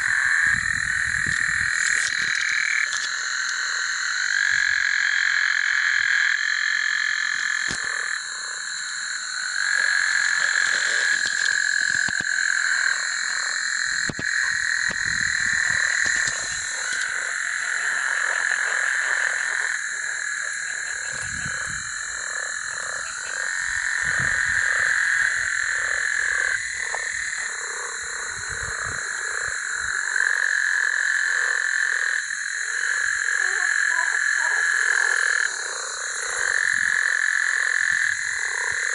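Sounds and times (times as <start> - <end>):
frogs calling in chorus: 0.0 - 38.9.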